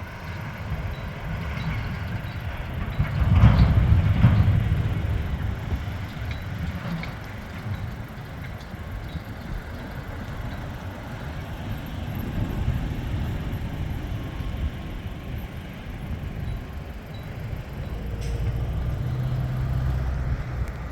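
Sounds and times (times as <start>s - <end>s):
train rumbling: 0.0s - 20.9s.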